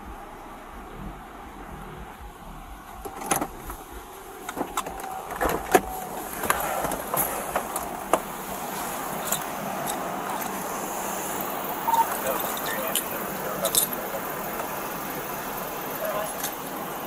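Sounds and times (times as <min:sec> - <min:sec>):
steady background hum: 0:00.0 - 0:17.0
rustling in car seat: 0:00.9 - 0:16.9
car door opening: 0:01.8 - 0:16.8.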